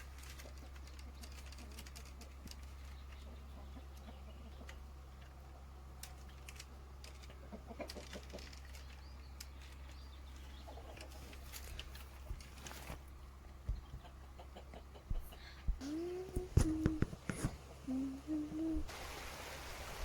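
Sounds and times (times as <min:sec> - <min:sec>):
chickens clucking: 0:00.0 - 0:18.9
low steady hum: 0:00.0 - 0:20.0.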